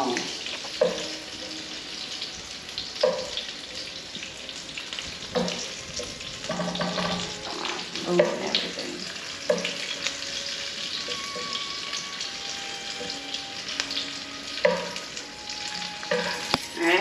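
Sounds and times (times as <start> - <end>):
sausages sizzling in frying pan: 0.0 - 17.0.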